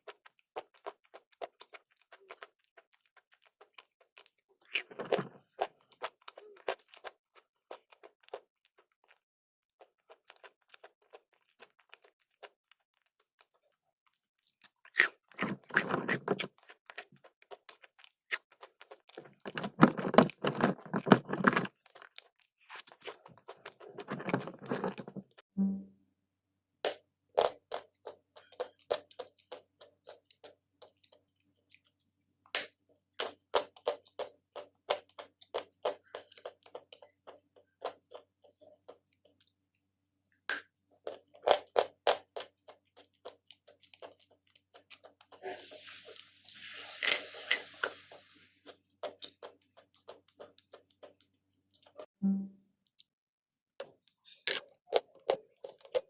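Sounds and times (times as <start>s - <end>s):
crunching and chewing chalk: 0.0s - 25.4s, 26.8s - 52.1s, 52.8s - 56.0s.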